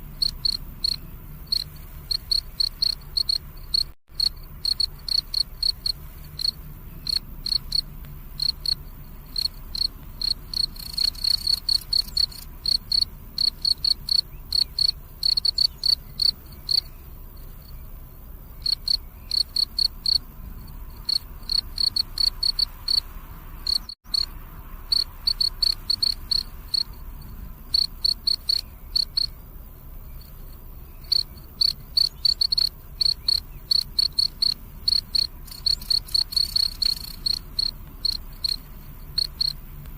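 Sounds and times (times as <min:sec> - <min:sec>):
crickets chirping: 0:00.0 - 0:39.8.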